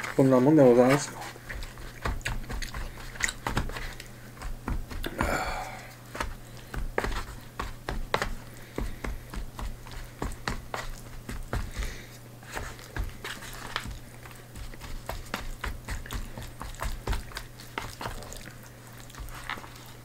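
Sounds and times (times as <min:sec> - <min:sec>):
person chewing: 0:01.0 - 0:20.0.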